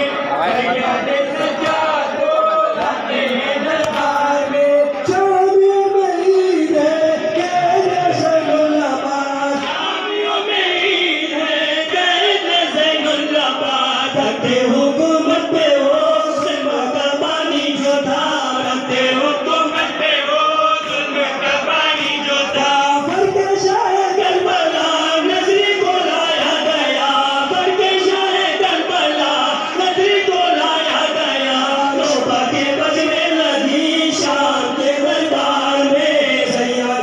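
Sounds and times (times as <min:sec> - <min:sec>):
men chanting a mourning lament: 0:00.0 - 0:37.0.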